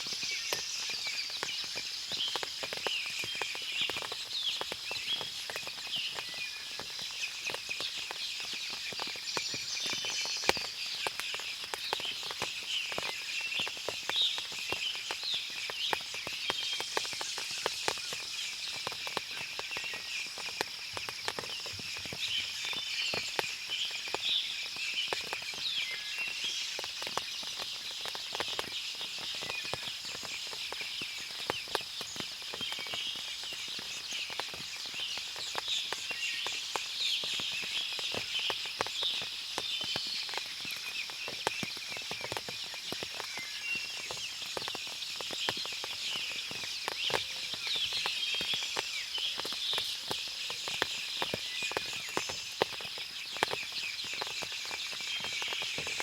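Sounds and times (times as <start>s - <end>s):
small ticks: 0.0s - 56.0s.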